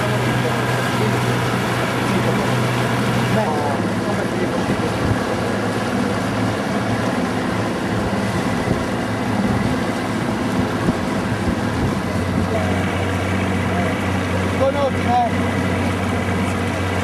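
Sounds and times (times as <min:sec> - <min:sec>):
boat engine humming: 0:00.0 - 0:17.0
wind and water noise: 0:00.0 - 0:17.0.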